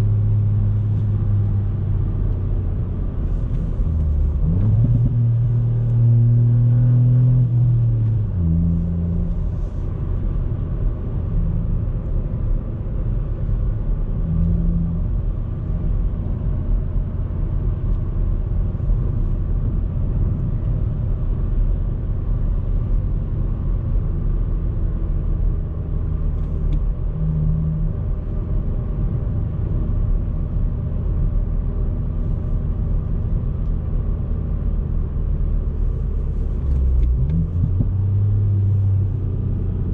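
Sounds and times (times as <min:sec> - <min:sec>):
car engine under load: 0:00.0 - 0:39.9
road rumble: 0:00.0 - 0:39.9.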